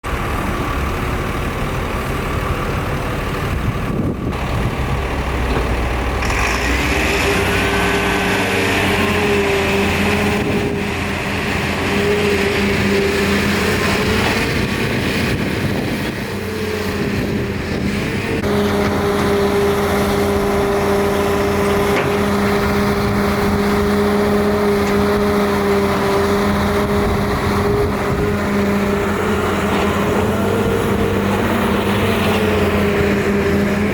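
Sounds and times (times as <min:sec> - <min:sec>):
heavy diesel engines running: 0:00.0 - 0:33.9.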